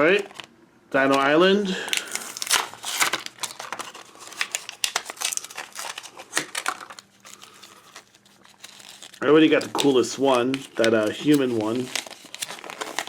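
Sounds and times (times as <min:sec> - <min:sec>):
plastic packaging crinkling and tearing: 0:00.0 - 0:13.0.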